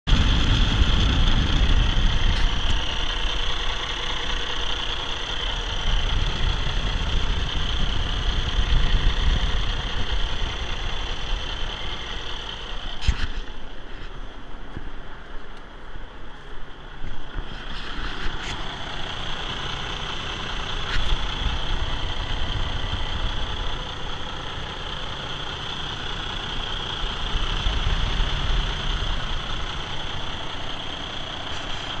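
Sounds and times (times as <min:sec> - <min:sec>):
diesel engine idling: 0:00.0 - 0:32.0
high engine whine: 0:00.0 - 0:32.0.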